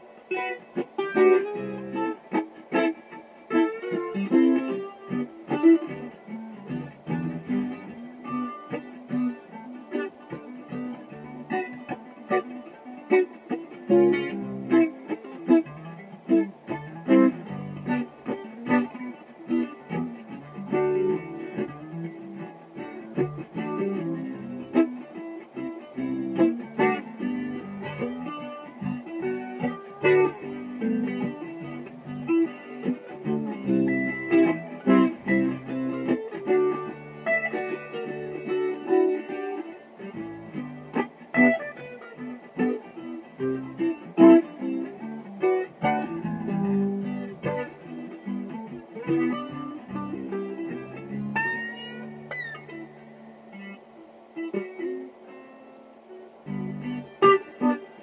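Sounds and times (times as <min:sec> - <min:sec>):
electric guitar: 0:00.0 - 0:58.0.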